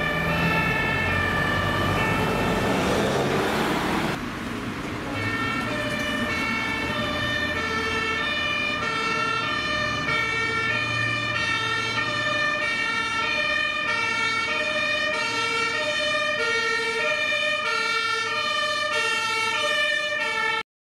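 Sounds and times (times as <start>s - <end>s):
two-tone siren: 0.0s - 4.2s, 5.1s - 20.7s
low rumble of road traffic: 0.0s - 20.6s.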